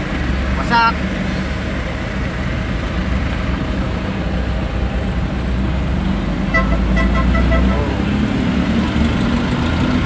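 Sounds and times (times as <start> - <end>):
vehicle engine hum and road noise: 0.0 - 10.0.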